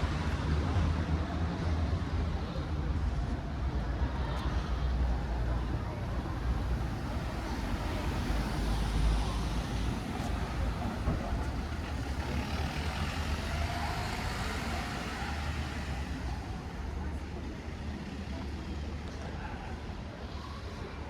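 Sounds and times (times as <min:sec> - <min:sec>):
vehicles passing: 0:00.0 - 0:21.0.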